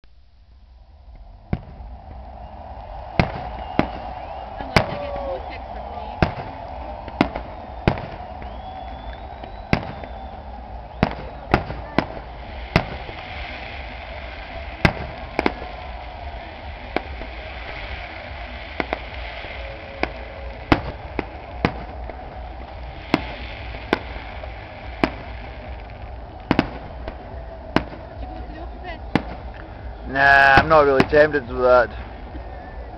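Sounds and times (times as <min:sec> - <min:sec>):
steady background noise: 0:00.1 - 0:32.9
firework shells cracking: 0:01.6 - 0:28.2.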